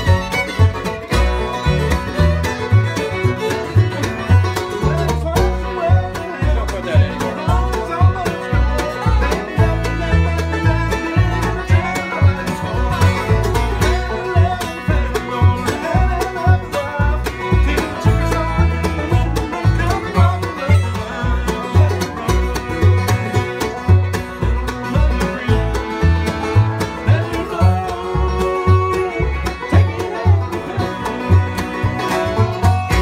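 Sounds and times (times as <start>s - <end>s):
acoustic bluegrass band playing: 0.0s - 33.0s
bass steady beat: 0.0s - 33.0s
man singing: 1.0s - 33.0s.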